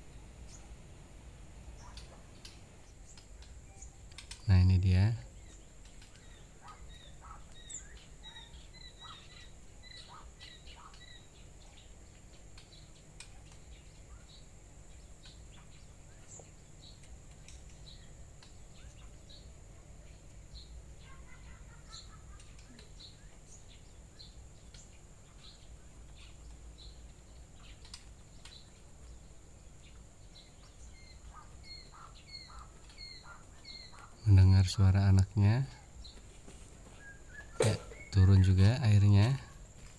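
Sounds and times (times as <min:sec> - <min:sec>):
quail chicks peeping: 0:01.7 - 0:36.2, 0:36.9 - 0:39.8.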